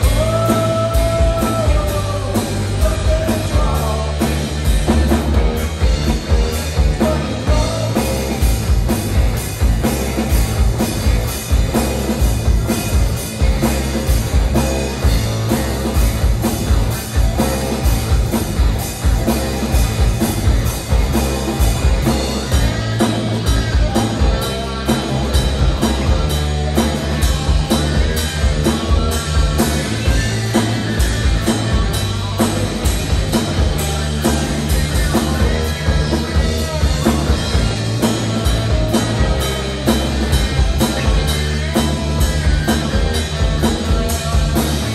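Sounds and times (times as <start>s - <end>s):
drum kit steady beat: 0.0s - 44.9s
electric guitars: 0.0s - 44.9s.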